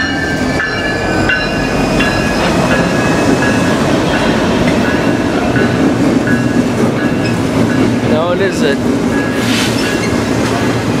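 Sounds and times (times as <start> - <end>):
diesel locomotive engine drone: 0.0 - 11.0
steel wheels clattering on rails: 0.0 - 11.0.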